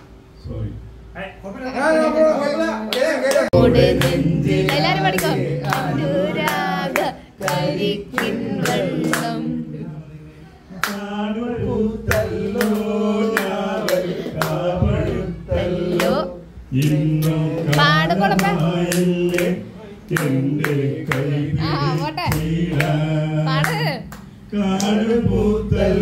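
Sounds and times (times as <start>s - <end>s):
people clapping along: 2.9s - 9.6s, 10.8s - 26.0s.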